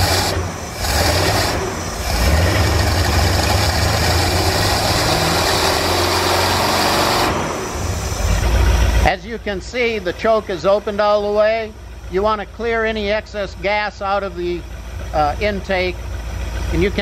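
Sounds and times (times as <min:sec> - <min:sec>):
boat engine idling: 0:00.0 - 0:06.8, 0:07.5 - 0:17.0.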